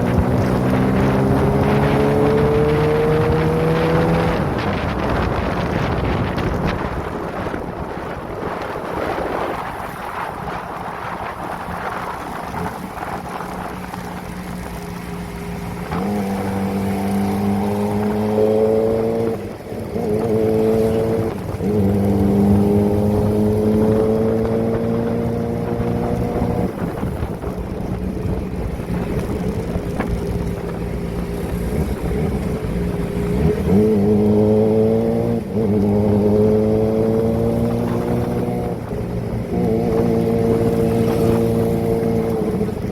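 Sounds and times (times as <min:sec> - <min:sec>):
wind rush: 0:00.0 - 0:14.9, 0:15.6 - 0:42.9
motorcycle engine accelerating: 0:00.0 - 0:42.9.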